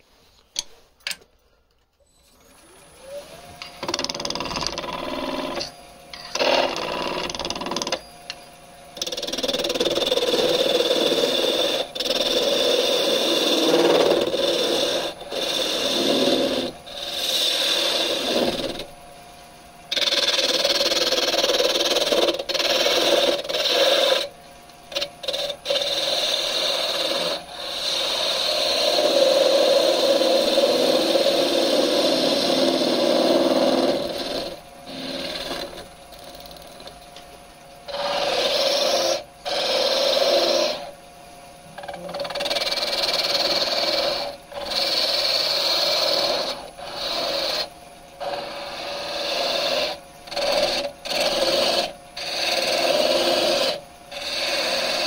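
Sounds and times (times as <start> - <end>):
lathe knife scraping wood: 3.6 - 8.4, 9.0 - 18.9, 19.9 - 24.3, 24.9 - 37.0, 37.8 - 41.0, 41.8 - 55.0.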